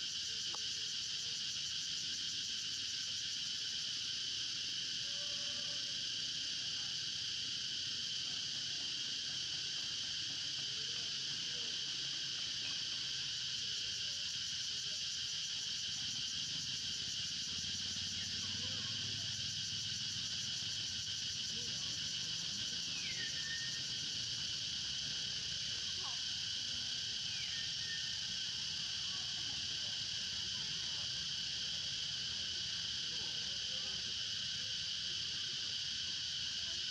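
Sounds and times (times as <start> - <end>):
insect chorus buzzing: 0.0 - 36.9.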